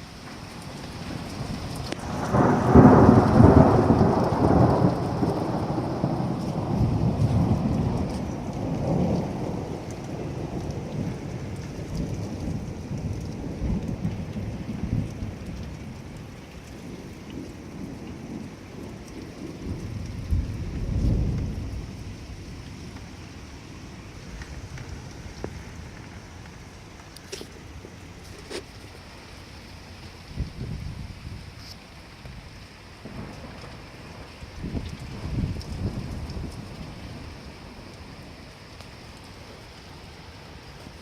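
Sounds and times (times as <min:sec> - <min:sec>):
wind buffeting microphone: 0:01.0 - 0:29.1, 0:30.2 - 0:31.6, 0:32.2 - 0:39.4.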